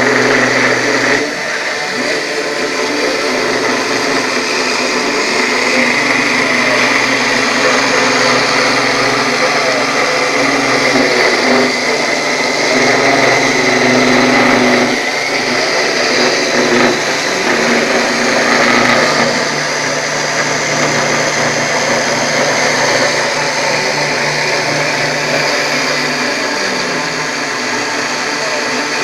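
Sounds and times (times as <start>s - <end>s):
bit cutting noise: 0.0s - 29.0s
spindle motor whine: 0.0s - 29.0s.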